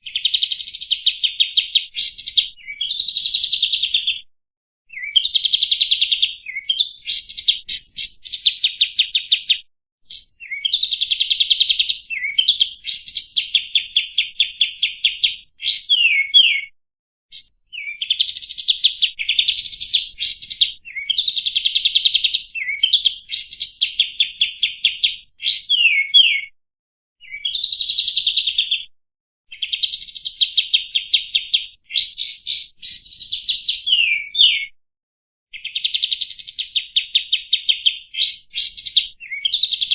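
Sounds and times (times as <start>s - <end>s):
songbird singing buzzy trills: 0.0s - 4.3s, 4.9s - 16.7s, 17.3s - 26.5s, 29.5s - 34.8s, 35.6s - 39.9s.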